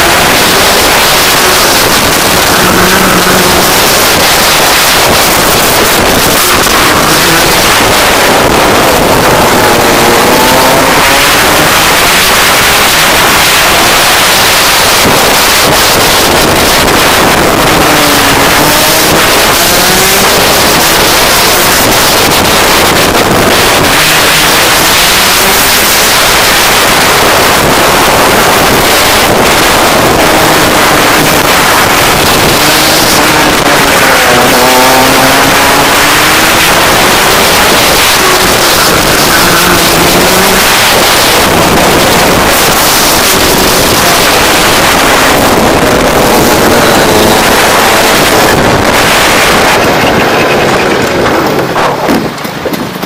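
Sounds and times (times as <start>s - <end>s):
kart engine running: 0.0s - 53.0s
wind noise on microphone: 0.0s - 53.0s.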